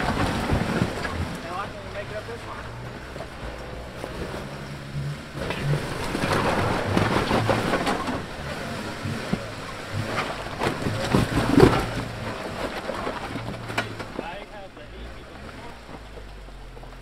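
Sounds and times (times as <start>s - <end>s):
knocks and rattles: 0.0s - 17.0s
vehicle engine at low revs: 0.0s - 17.0s.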